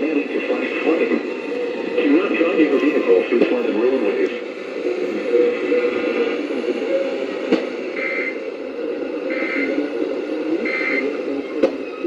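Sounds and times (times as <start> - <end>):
buzzy radio signal: 0.0 - 11.5.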